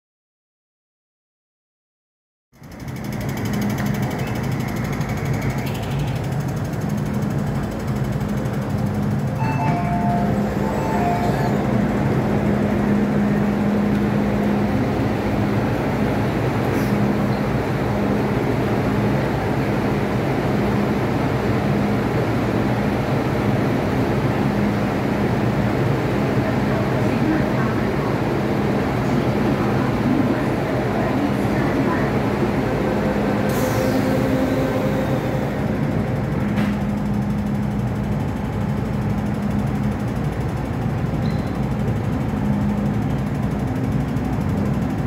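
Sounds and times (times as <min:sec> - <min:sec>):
electric train rumble: 0:02.6 - 0:45.0.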